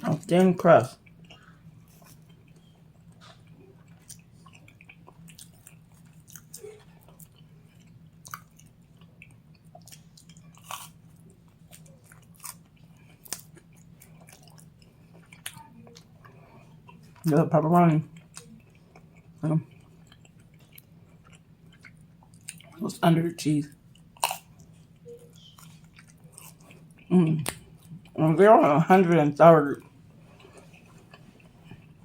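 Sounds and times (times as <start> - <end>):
faint steady hum: 0.0 - 32.0
close-up chewing: 0.1 - 22.8, 23.7 - 28.2, 29.8 - 32.0.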